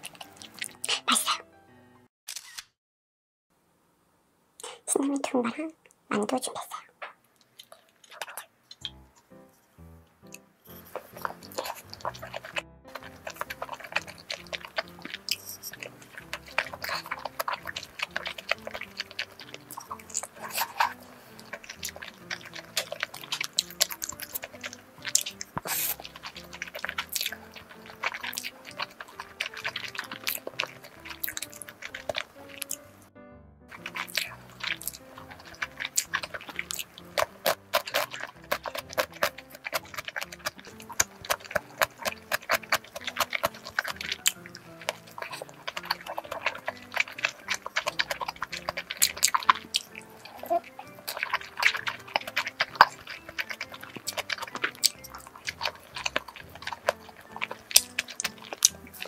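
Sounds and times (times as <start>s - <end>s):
chewing and slurping noodles: 0.0s - 1.4s, 10.3s - 33.1s, 33.7s - 59.0s
background music: 0.0s - 2.1s, 8.8s - 59.0s.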